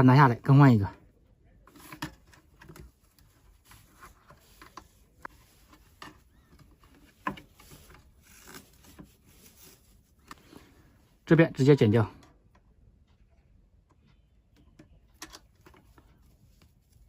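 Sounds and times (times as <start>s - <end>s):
small clicks and rubbing on wiring: 1.6s - 17.0s.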